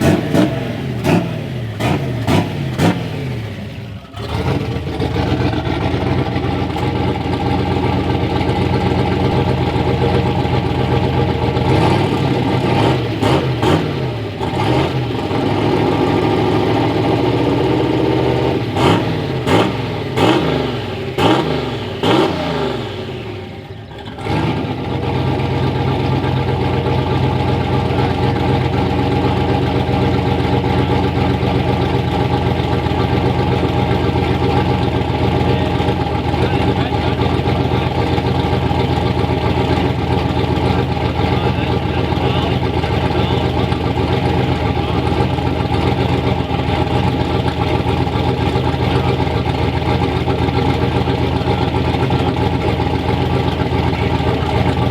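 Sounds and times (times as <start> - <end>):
truck engine revving and idling: 0.0 - 54.9.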